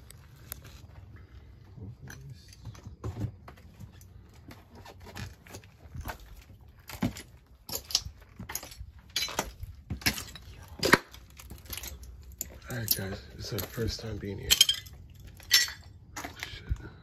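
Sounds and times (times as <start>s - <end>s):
footsteps crunching over rubble: 0.0s - 17.0s.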